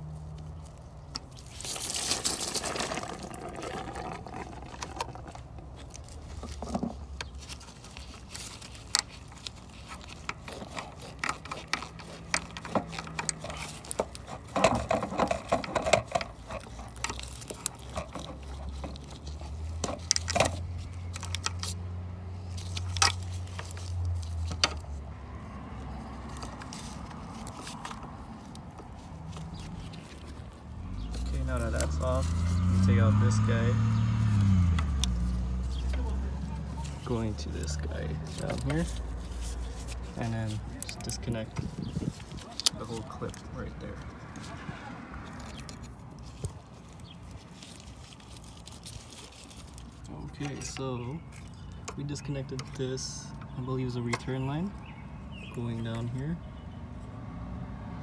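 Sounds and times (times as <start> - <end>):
gloves rustling: 0.0 - 52.8.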